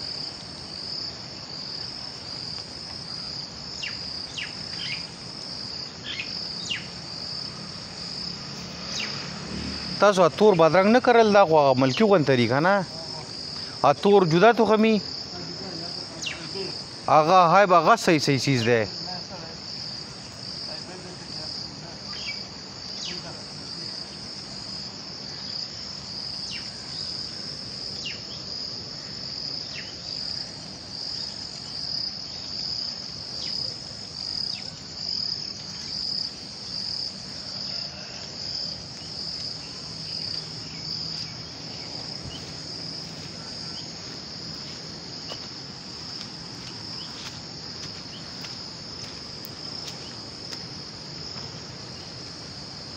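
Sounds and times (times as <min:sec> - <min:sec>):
insects trilling in grass: 0:00.0 - 0:52.9.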